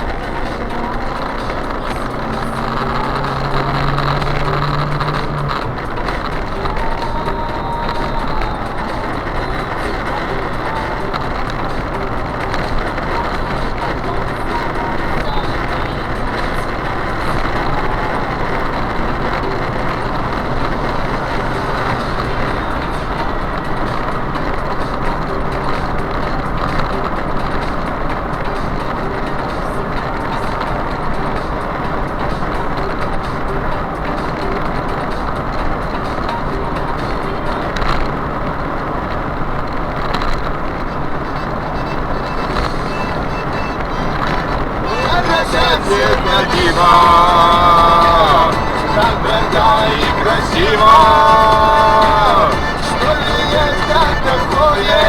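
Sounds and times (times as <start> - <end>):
road noise of vehicle at speed: 0.0 - 55.0.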